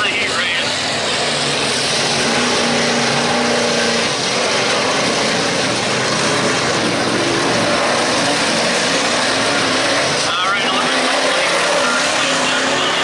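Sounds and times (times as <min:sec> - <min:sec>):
truck engines racing: 0:00.0 - 0:13.0.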